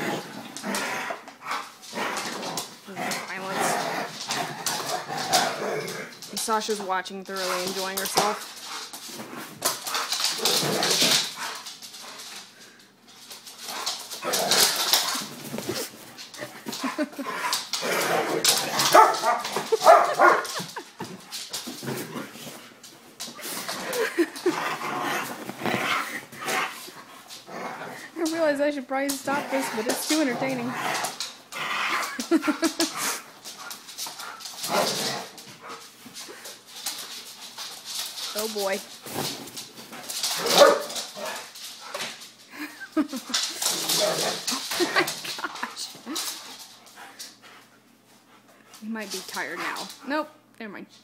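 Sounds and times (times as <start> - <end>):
dogs play-fighting and vocalising: 0.0 - 50.5.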